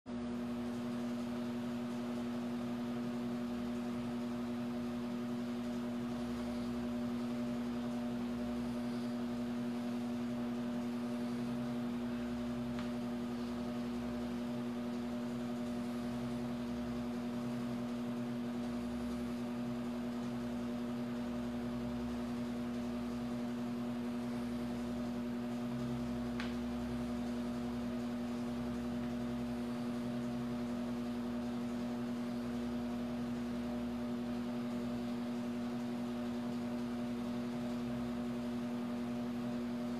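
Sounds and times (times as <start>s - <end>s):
machine hum: 0.1s - 39.9s.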